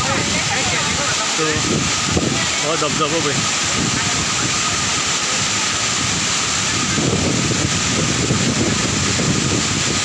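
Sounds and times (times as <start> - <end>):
waterfall rushing: 0.0 - 10.0
wind buffeting microphone: 0.0 - 10.0.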